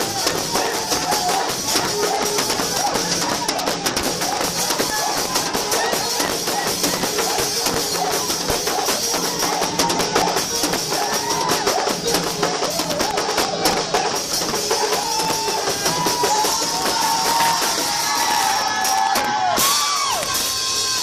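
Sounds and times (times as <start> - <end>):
music with drums and percussion: 0.0 - 21.0.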